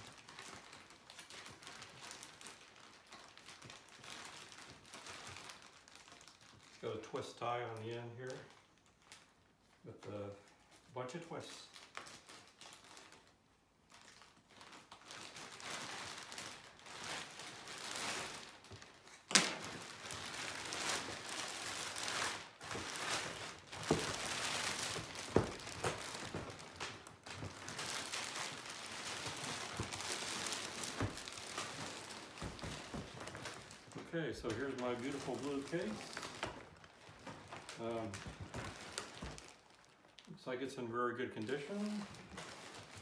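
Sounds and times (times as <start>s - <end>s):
plastic wrapping crinkling: 0.0s - 43.0s.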